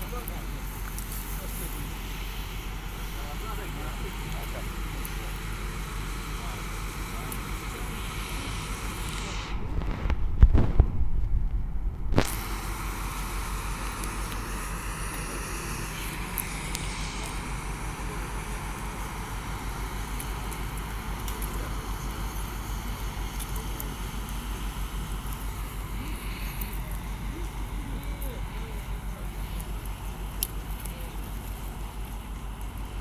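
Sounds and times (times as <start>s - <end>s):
boat diesel engine rumble: 0.0s - 33.0s.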